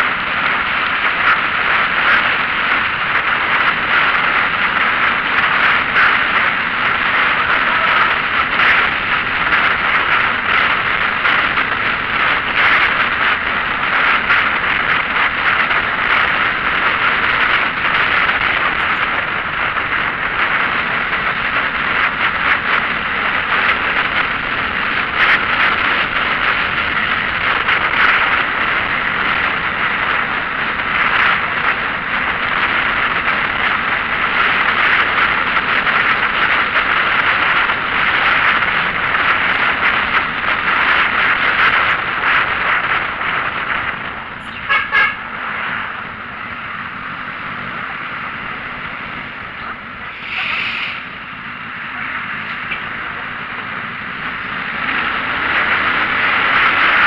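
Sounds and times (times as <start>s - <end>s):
vehicle road and wind noise: 0.0s - 57.0s.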